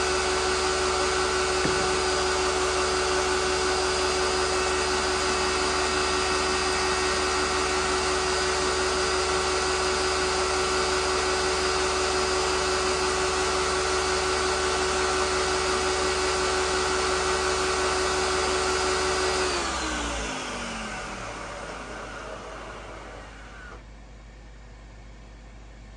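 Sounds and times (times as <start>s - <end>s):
kitchen appliance motor humming: 0.0s - 23.8s.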